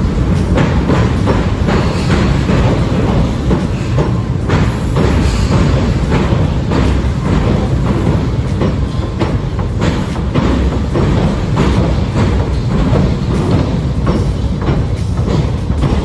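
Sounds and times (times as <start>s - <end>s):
train rumbling on bridge: 0.0s - 16.0s
wheels clacking over rail joints: 0.0s - 16.0s.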